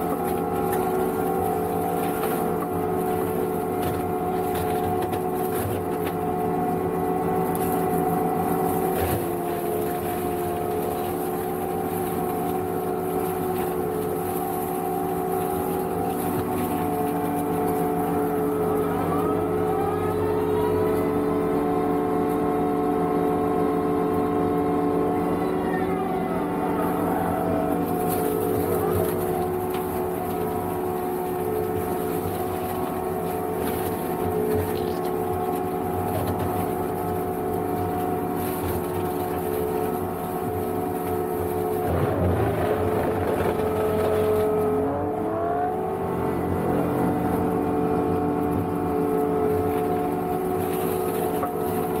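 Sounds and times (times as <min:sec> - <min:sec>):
mower diesel and hydraulic drone: 0:00.0 - 0:52.0.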